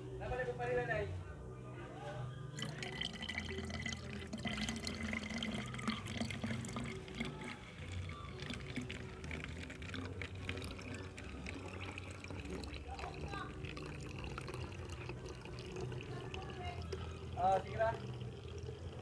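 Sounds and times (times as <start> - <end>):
water pouring into plastic bottle: 2.6 - 19.0.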